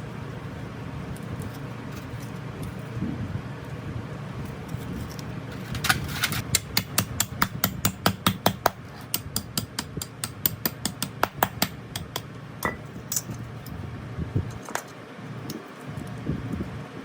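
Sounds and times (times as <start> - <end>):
low steady background hum: 0.0 - 17.0.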